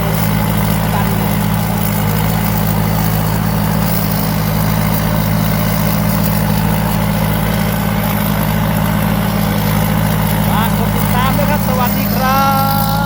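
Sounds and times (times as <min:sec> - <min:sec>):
harvester engine humming: 0:00.0 - 0:13.0.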